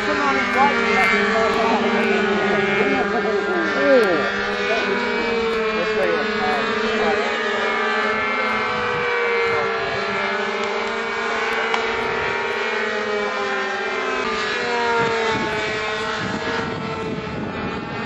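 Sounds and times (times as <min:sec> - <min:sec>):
model airplane engines buzzing: 0:00.0 - 0:18.0.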